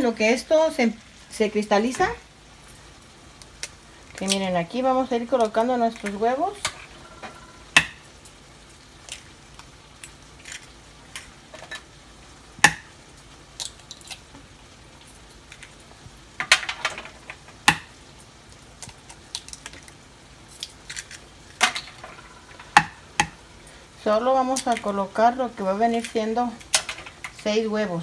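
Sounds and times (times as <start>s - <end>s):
eggshell crackle: 1.0s - 27.5s.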